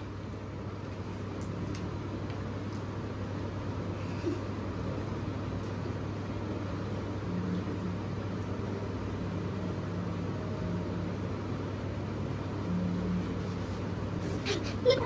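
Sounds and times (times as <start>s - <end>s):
fan humming and hissing: 0.0s - 15.0s.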